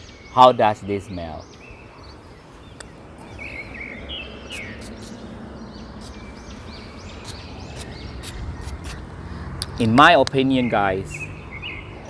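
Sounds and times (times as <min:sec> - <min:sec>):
small birds chirping: 0:00.0 - 0:12.0
steady outdoor background hum: 0:00.0 - 0:12.0.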